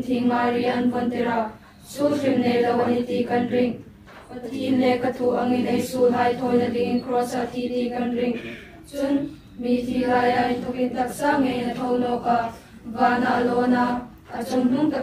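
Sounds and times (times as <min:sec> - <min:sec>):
voices singing slow song: 0:00.0 - 0:15.0.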